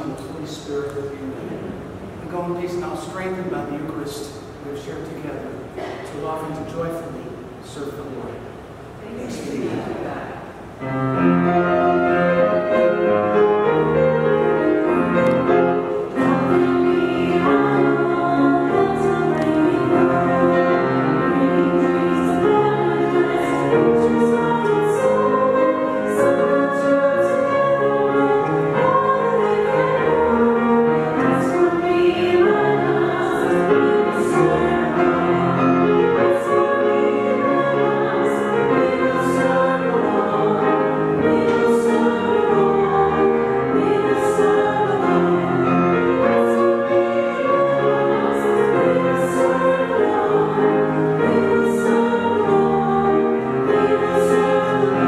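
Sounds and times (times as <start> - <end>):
piano accompaniment: 0.0 - 7.3, 9.4 - 55.0
voices singing a hymn: 0.0 - 55.0.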